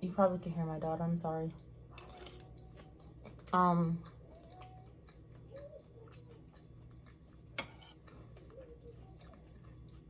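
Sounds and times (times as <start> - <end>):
soft chewing: 1.4 - 10.0.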